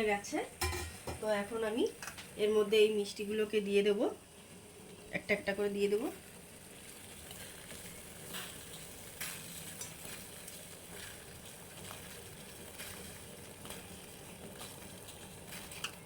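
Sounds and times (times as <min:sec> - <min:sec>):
syrup bubbling in a pot: 0:02.0 - 0:16.0.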